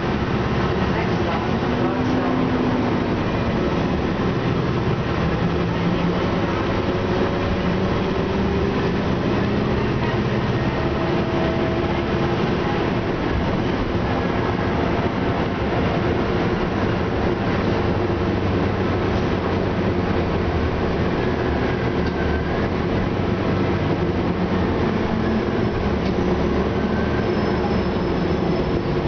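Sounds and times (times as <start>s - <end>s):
bus engine rumble inside cabin: 0.0s - 29.0s.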